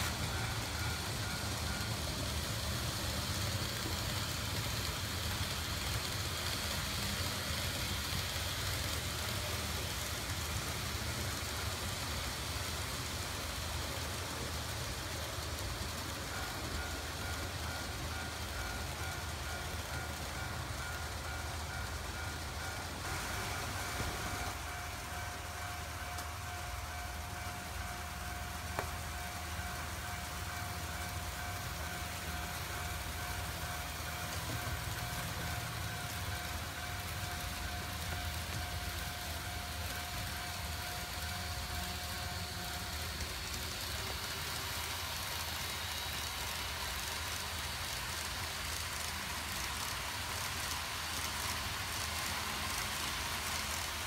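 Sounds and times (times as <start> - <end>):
model train wheels rumbling: 0.0 - 54.0.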